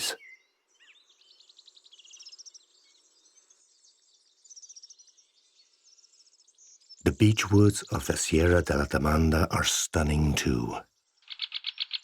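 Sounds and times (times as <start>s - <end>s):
songbirds twittering: 0.0s - 12.0s.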